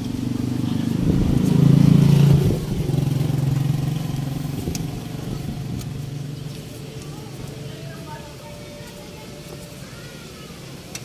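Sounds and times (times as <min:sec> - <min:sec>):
vehicle engine passing: 0:00.0 - 0:09.0.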